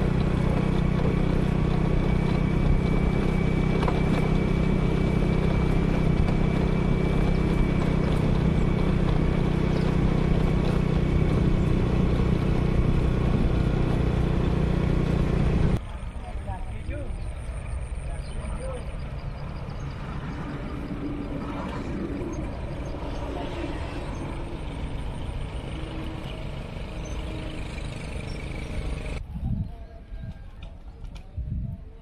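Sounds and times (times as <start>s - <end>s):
motorcycle engine running: 0.0s - 29.2s
road and air noise: 0.0s - 29.3s.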